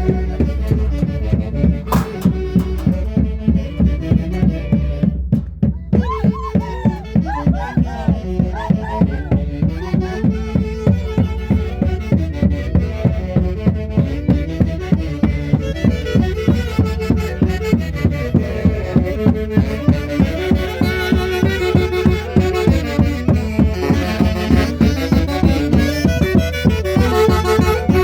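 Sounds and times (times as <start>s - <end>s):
quick steady drum beat: 0.0s - 13.3s, 14.2s - 28.0s
folk orchestra melody instruments: 0.0s - 28.0s.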